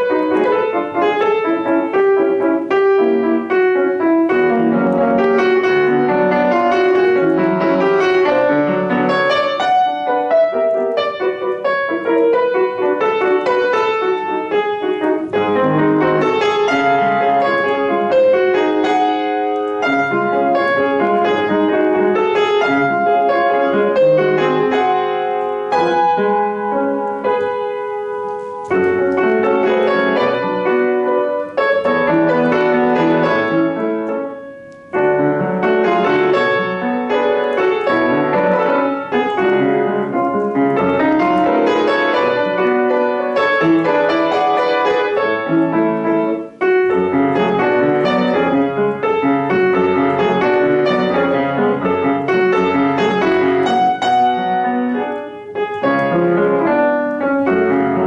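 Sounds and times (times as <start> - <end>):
solo piano classical piece: 0.0 - 58.0.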